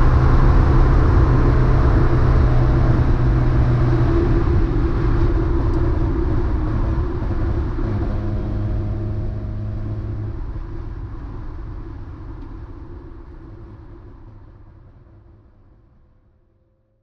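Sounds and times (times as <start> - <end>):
race car engine and road rumble: 0.0 - 17.0.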